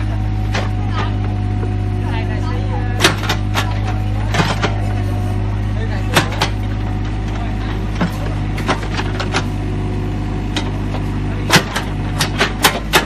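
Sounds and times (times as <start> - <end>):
excavator engine under load: 0.0 - 13.0.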